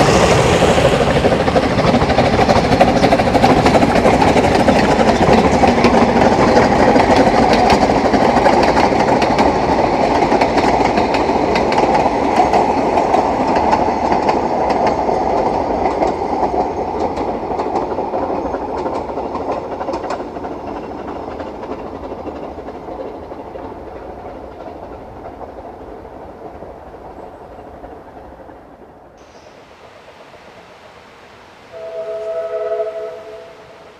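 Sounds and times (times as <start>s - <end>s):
train running on rails: 0.0s - 33.9s
wheels clicking over rail joints: 1.5s - 28.9s.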